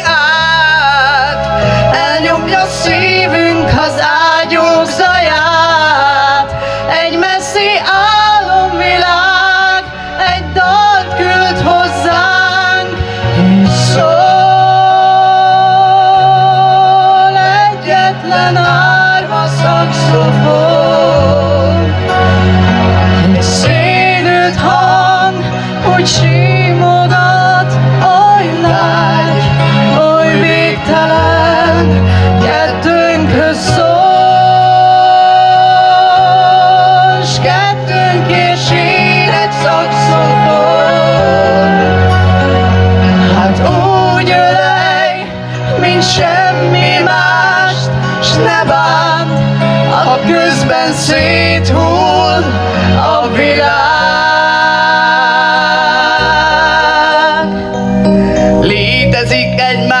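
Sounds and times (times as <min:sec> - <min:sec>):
man and woman singing duet: 0:00.0 - 0:57.8, 0:58.6 - 1:00.0
instrumental accompaniment: 0:00.0 - 1:00.0
steady bass line: 0:00.0 - 1:00.0.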